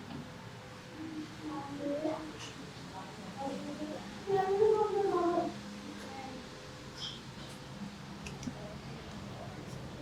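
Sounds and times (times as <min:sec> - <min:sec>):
faint indistinct voices: 0:00.0 - 0:10.0
room murmur: 0:00.0 - 0:10.0.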